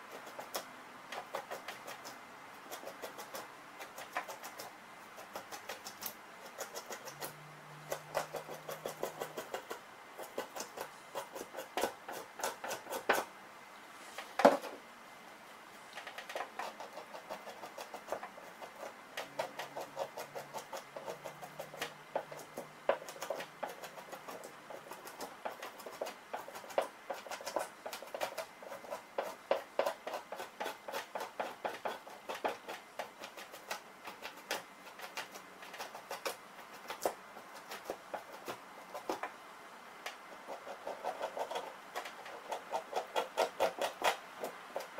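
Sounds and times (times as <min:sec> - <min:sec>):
knife scraping hide: 0:02.7 - 0:13.3, 0:16.0 - 0:39.3, 0:40.3 - 0:44.9.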